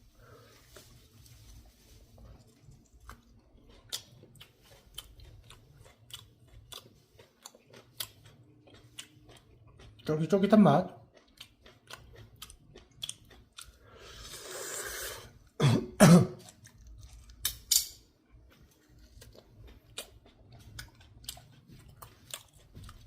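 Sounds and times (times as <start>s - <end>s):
person chewing wetly: 0.6s - 15.6s, 16.4s - 23.0s.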